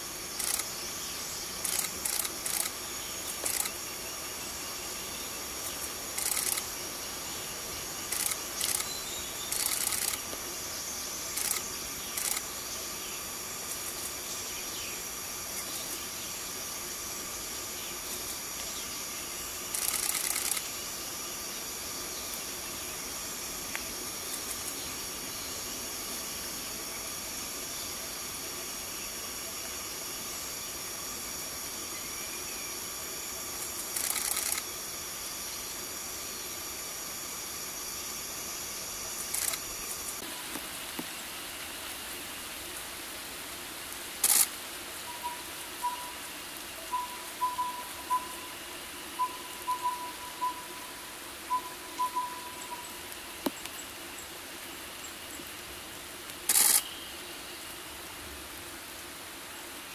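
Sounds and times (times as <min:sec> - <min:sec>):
high-pitched drone and hiss: 0:00.0 - 0:59.9.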